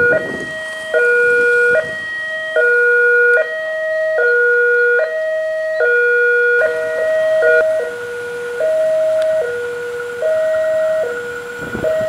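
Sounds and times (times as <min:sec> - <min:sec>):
two-note electronic warning alarm: 0:00.0 - 0:12.0.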